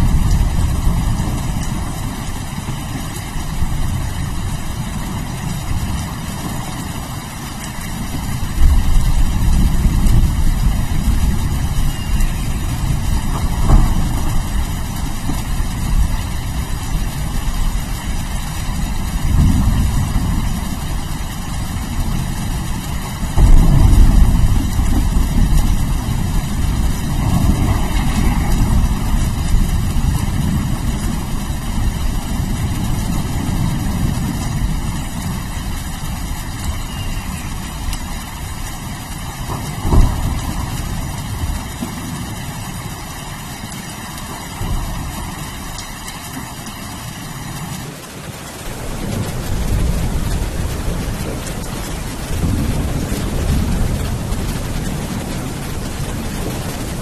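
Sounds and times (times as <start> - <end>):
rolling thunder: 0.0 - 7.0, 7.8 - 43.1, 48.6 - 57.0
steady rain: 0.0 - 57.0.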